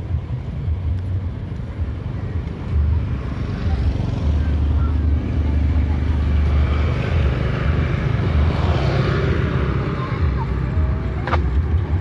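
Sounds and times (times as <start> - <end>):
motorcycles passing: 0.0 - 12.0.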